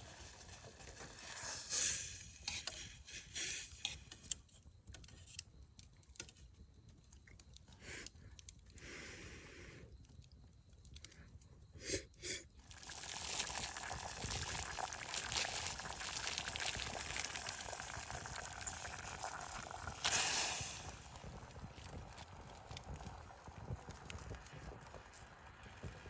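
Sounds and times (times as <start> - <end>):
campfire crackling and hissing: 0.0 - 26.0.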